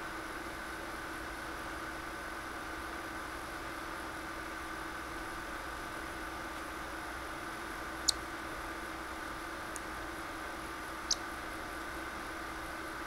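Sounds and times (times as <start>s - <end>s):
computer fan hum: 0.0s - 13.0s.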